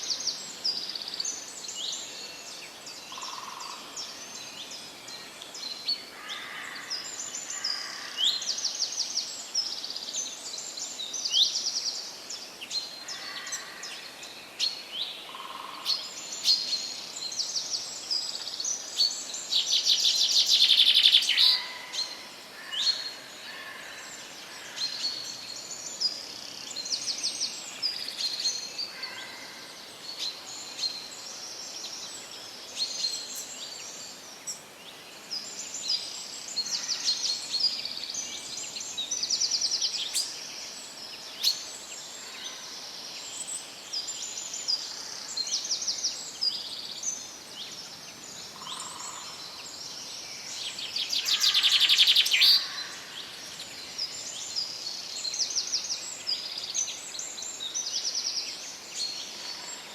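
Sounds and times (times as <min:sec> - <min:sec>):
faint steady hiss: 0:00.0 - 0:59.9
songbirds chirping and trilling: 0:00.0 - 0:59.9.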